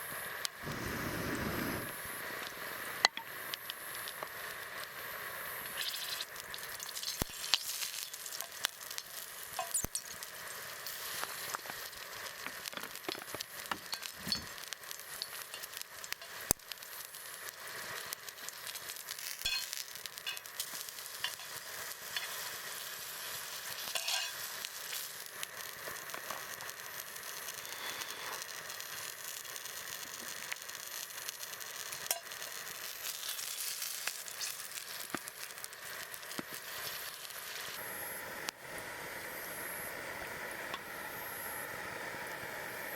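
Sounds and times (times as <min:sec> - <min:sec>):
food sizzling in a pan: 0:00.0 - 0:42.9.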